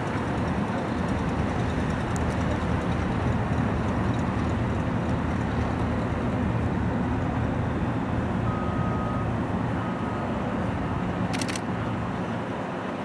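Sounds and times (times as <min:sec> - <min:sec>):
distant plane engine droning: 0:00.0 - 0:13.0.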